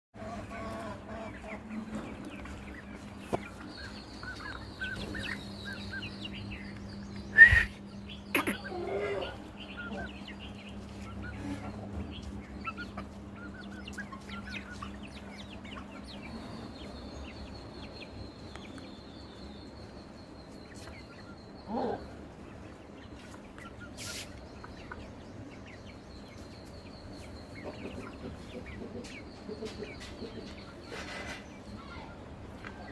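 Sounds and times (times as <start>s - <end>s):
chickens clucking: 0.2s - 32.9s.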